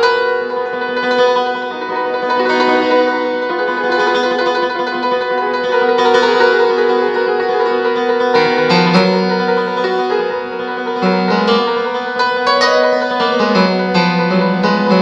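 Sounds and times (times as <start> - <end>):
grand piano improvisation: 0.0 - 15.0.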